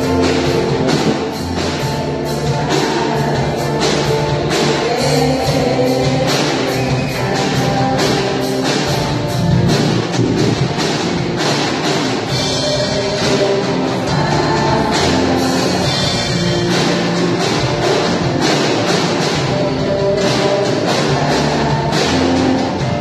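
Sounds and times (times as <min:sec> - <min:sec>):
drum kit beat: 0:00.0 - 0:23.0
worship band music: 0:00.0 - 0:23.0.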